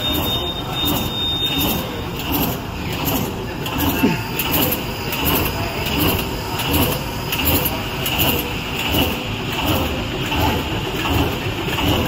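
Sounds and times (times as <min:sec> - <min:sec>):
bag making machine running: 0:00.0 - 0:12.0
regular machine stroke: 0:00.0 - 0:12.0.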